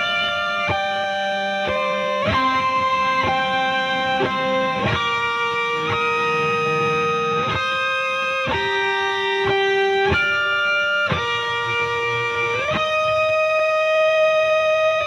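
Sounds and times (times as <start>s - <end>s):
electric guitar slow melody: 0.0s - 15.0s.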